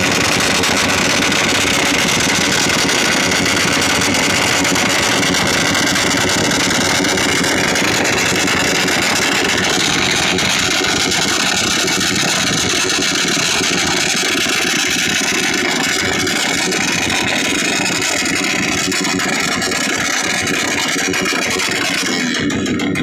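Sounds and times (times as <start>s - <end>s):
scooter engines at high revs: 0.0s - 23.0s.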